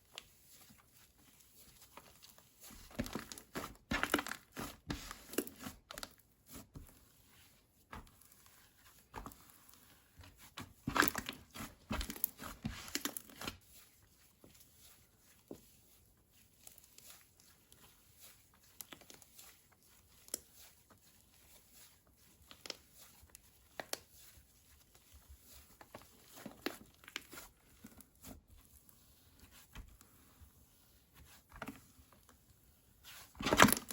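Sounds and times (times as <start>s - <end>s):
slime squishing and crackling: 0.0s - 32.3s, 33.0s - 33.9s.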